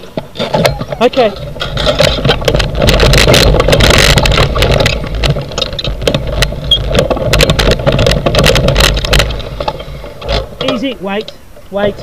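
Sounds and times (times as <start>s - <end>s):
frame and camera mount rattling: 0.2s - 11.3s.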